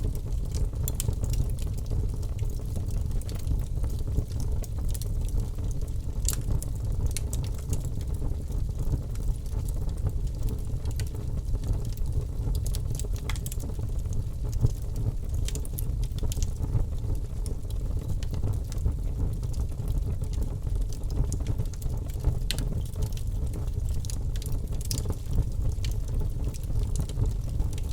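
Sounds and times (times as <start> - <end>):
fire crackling and popping: 0.0 - 27.9.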